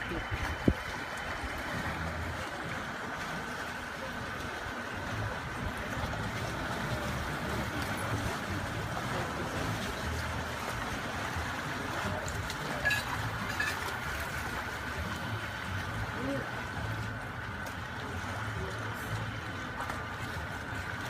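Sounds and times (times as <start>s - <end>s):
sea water washing against rocks: 0.0s - 21.0s.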